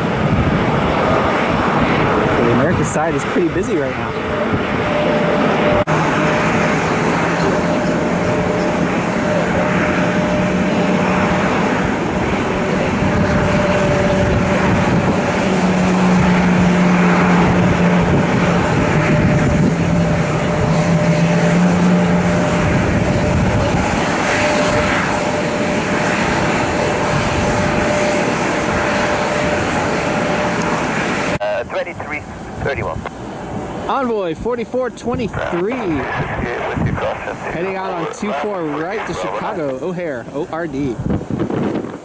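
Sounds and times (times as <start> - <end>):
jet engines running: 0.0 - 42.0
thin steady whine: 0.0 - 42.0.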